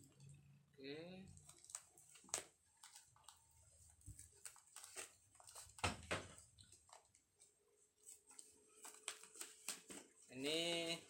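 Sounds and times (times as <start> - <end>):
packaging being unwrapped: 1.3 - 10.3.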